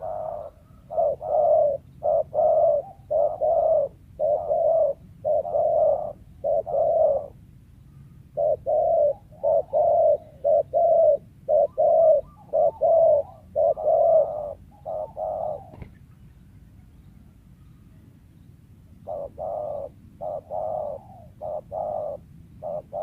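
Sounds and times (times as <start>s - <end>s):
dove cooing: 0.0s - 16.9s, 18.9s - 23.0s.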